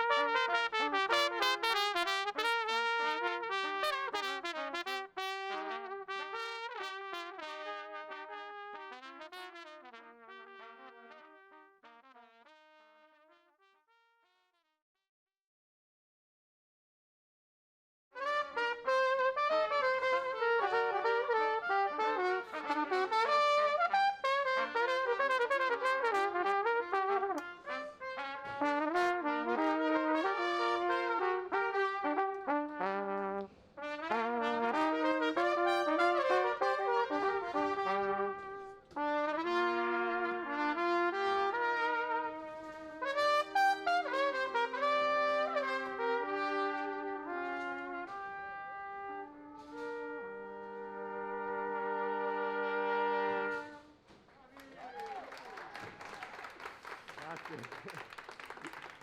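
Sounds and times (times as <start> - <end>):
brass ensemble with trumpets: 0.0 - 14.5, 18.2 - 54.3.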